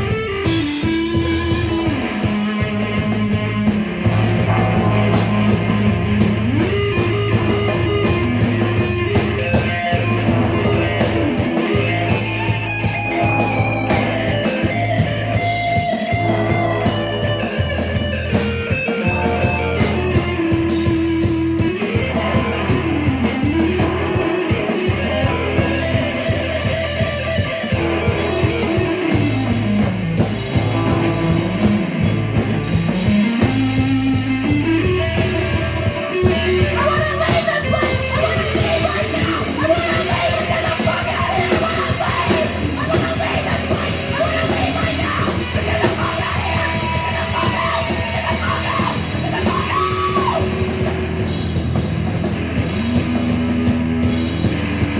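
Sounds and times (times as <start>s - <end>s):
bass: 0.0s - 54.9s
drums: 0.0s - 54.9s
electric guitar: 0.0s - 54.9s.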